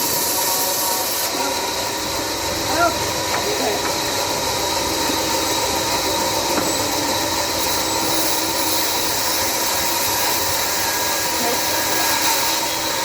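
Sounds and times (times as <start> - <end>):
band saw running: 0.0 - 13.0.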